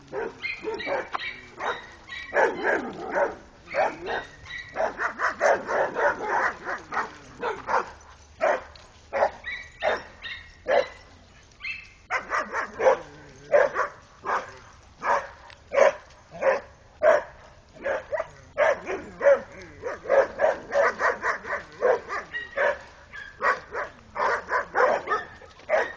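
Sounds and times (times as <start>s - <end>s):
dogs barking: 0.0s - 25.9s.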